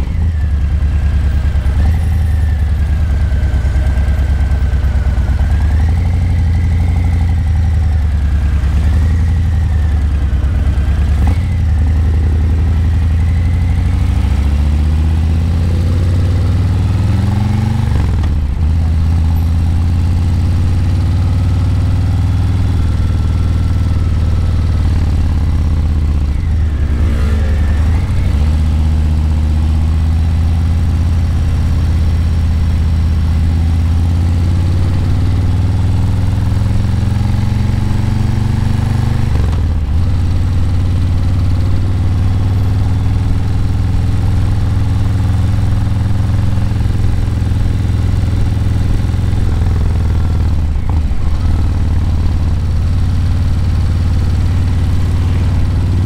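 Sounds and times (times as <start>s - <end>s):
motorcycle exhaust at cruising revs: 0.0s - 56.0s.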